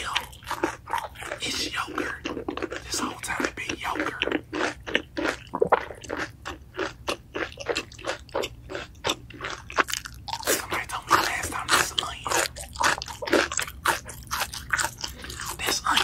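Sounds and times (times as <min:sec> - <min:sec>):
crunchy food chewing: 0:00.0 - 0:16.0.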